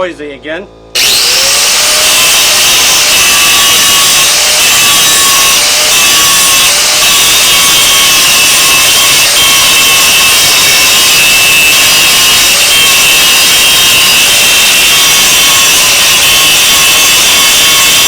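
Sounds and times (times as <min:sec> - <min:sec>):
angle grinder grinding metal: 0:01.0 - 0:18.0.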